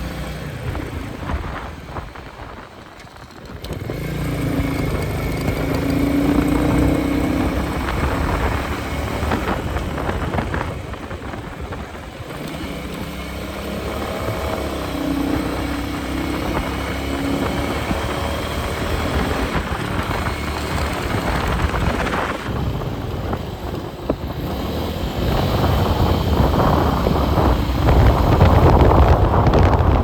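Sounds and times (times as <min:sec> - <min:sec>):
motorcycle engine and exhaust: 0:00.0 - 0:30.0.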